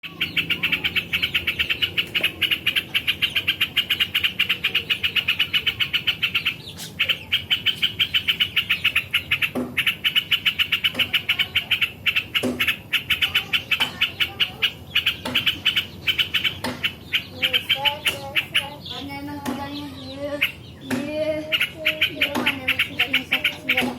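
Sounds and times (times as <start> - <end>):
bulbul chattering song: 0.0 - 23.9.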